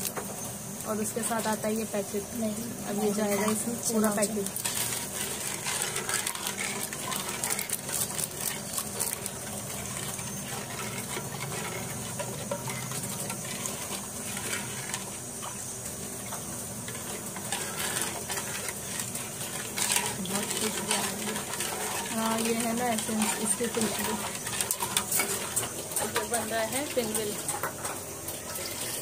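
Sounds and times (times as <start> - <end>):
liquid swishing and sloshing: 3.4 - 29.0.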